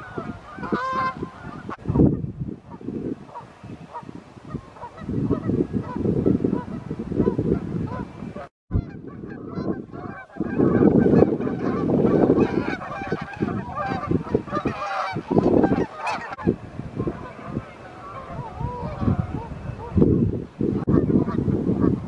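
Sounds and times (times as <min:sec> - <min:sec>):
geese honking: 0:00.0 - 0:02.1, 0:03.3 - 0:20.0.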